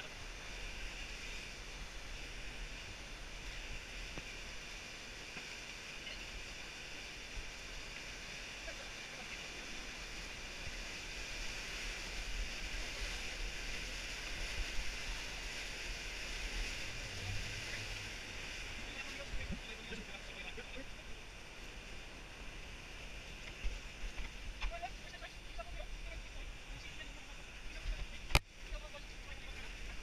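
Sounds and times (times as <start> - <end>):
whitewater rushing: 0.0 - 30.0.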